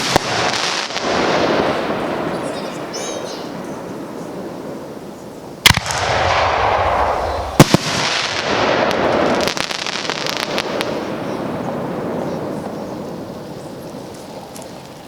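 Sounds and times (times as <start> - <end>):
firework booms: 0.0 - 14.8
firework crackles: 0.0 - 15.0.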